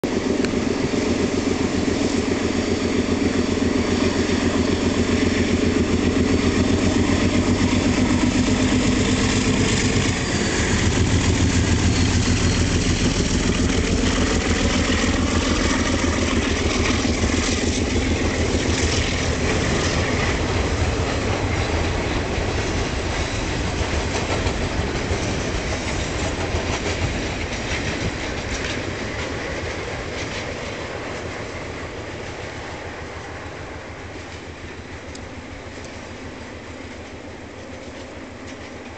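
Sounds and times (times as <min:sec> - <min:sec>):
diesel locomotive engine: 0:00.0 - 0:38.9.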